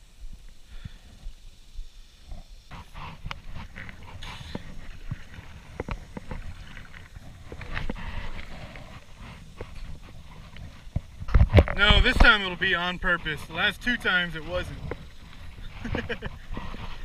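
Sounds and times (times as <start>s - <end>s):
water splashing: 3.2s - 17.0s.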